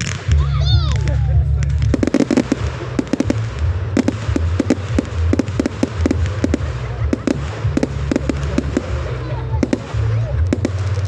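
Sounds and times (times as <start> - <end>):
fireworks bangs and cracks: 0.0 - 11.0
low rumble: 0.0 - 11.0.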